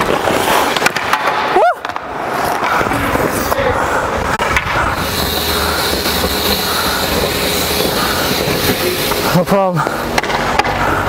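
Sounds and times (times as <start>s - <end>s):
skate blades scraping on ice: 0.0s - 11.0s.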